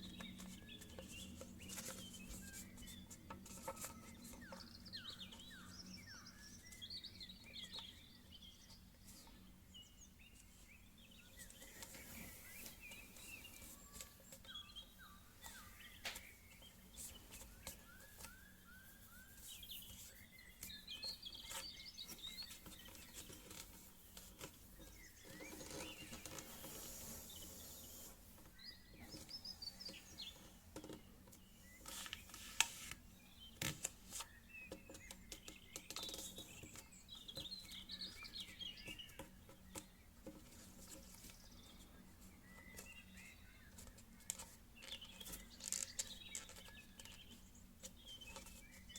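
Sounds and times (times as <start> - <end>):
faint birds chirping: 0.0 - 48.9.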